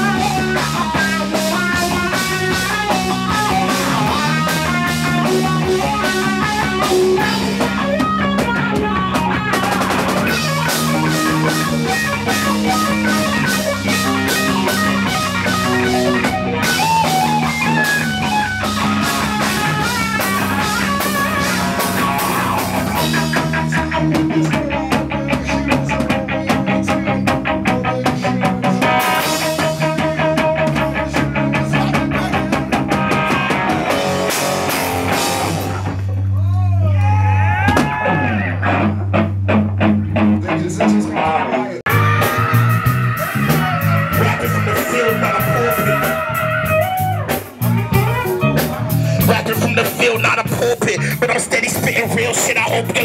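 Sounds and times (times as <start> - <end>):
drum kit: 0.0 - 36.3, 37.6 - 53.0
electric guitar melody: 0.0 - 36.3, 38.1 - 53.0.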